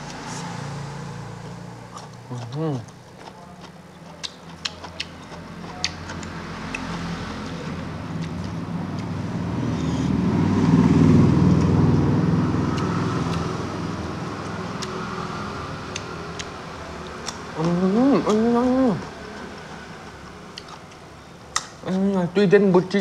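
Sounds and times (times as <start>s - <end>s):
vehicle passing by: 0.0s - 3.0s, 4.5s - 23.0s.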